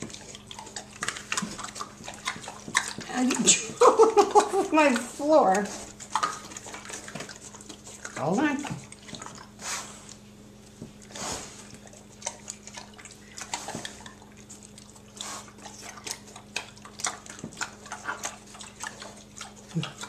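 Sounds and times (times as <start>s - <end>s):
pigs smacking and slurping: 0.0s - 20.0s.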